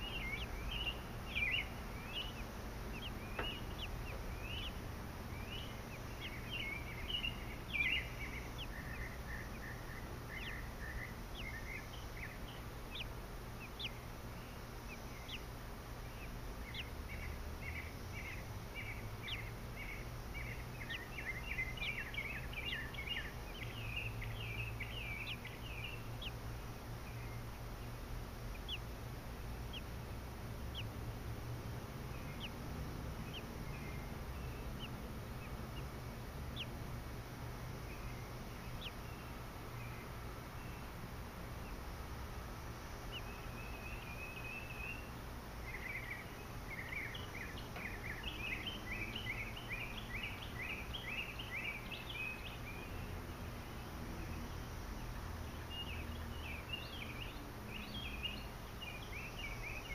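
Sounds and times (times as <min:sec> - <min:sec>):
low background rumble: 0:00.0 - 0:59.9
small birds chirping: 0:00.0 - 0:59.9.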